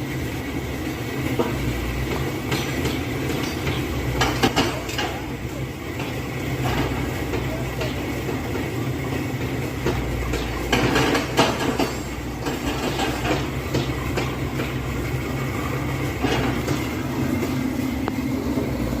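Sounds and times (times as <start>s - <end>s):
excavator diesel engine running: 0.0s - 19.0s
heavy metallic knocks and clanks: 1.3s - 19.0s.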